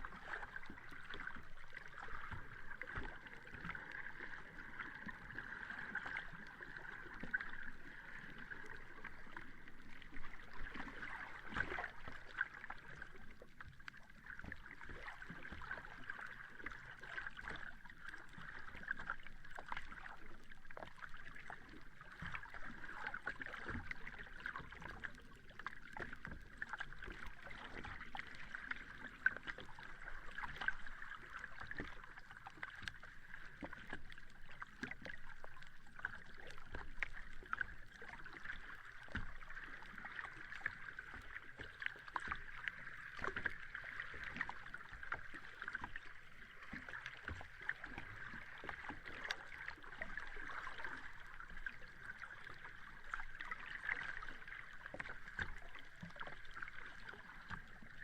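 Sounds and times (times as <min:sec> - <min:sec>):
sea water lapping at shore: 0:00.0 - 0:58.0.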